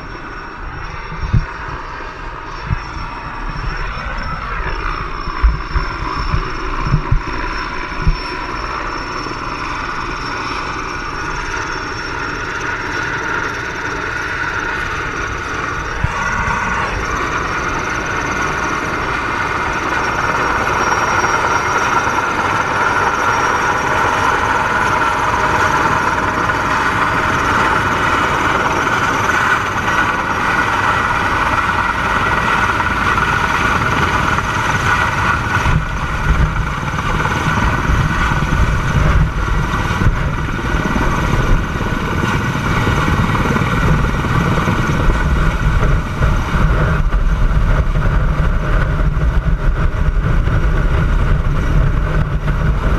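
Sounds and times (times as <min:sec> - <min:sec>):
helicopter turbine and rotor noise: 0:00.0 - 0:52.9.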